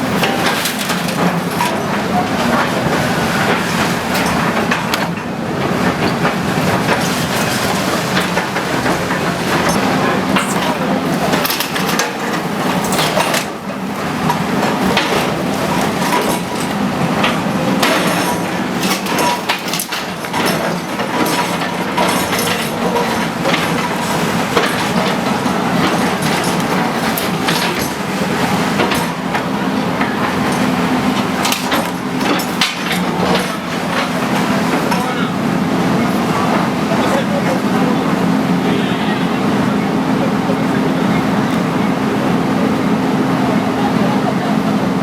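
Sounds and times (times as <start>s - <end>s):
bulldozer diesel engine running: 0.0s - 45.0s
tracks clanking: 0.0s - 45.0s.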